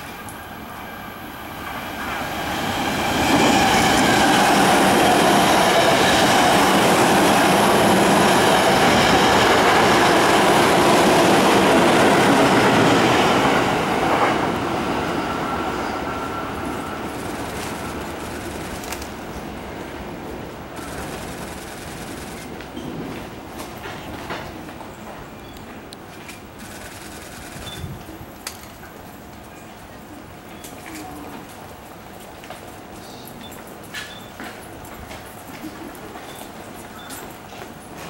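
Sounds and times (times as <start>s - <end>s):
electric train passing: 0.0s - 30.5s.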